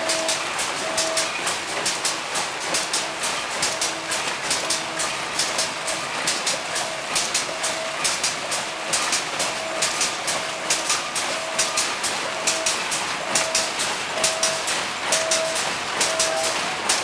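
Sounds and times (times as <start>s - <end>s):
packing machines clattering: 0.0s - 17.0s.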